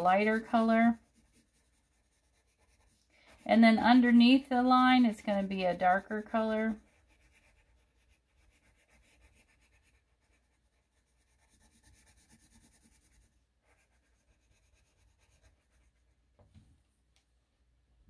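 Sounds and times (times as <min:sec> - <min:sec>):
pencil scratching on paper: 0:00.0 - 0:16.2.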